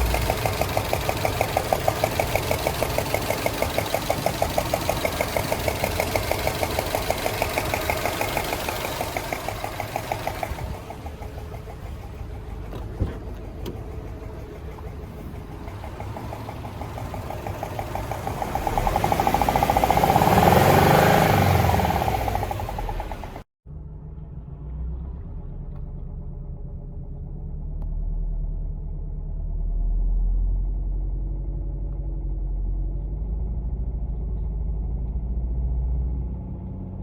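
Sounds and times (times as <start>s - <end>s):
engine running with tapping: 0.0s - 37.0s.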